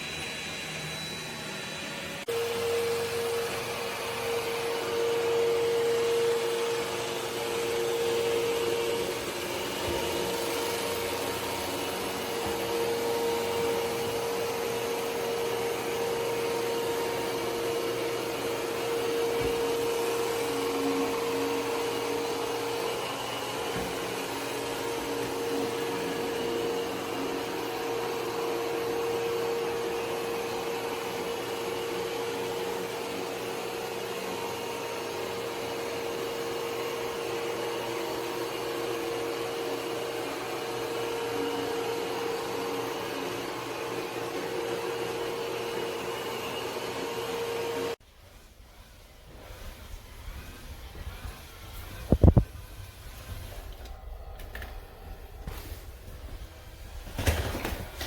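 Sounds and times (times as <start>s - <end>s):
robot vacuum running: 0.0s - 48.0s.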